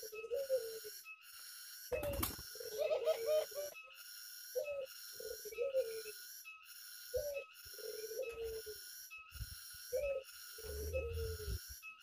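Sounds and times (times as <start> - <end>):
doves cooing: 0.0 - 1.0, 1.9 - 3.9, 4.5 - 12.0.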